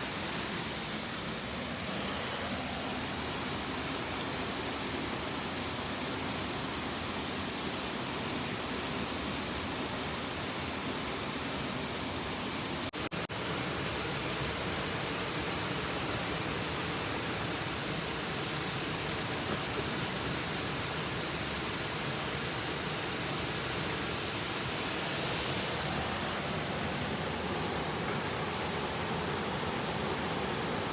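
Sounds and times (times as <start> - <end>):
waterfall rushing: 0.0 - 12.6, 13.4 - 30.9.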